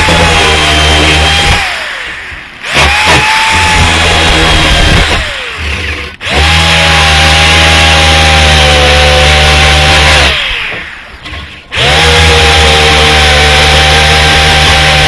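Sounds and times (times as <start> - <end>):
electric grinder on metal: 0.0 - 15.0.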